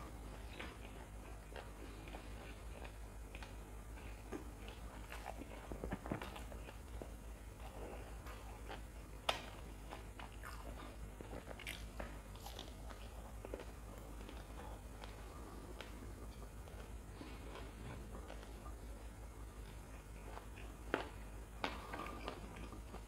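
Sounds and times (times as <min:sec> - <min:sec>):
chewing crunchy fried snacks: 0:00.1 - 0:23.0.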